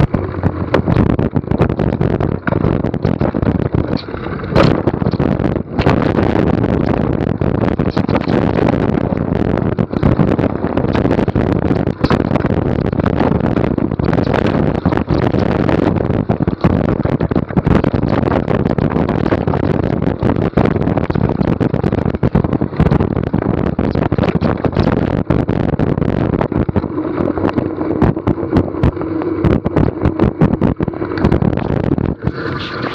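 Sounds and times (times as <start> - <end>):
bike rattling and knocking: 0.0 - 32.9
steady hum: 0.0 - 32.9
wind and tyre rush: 0.0 - 32.9.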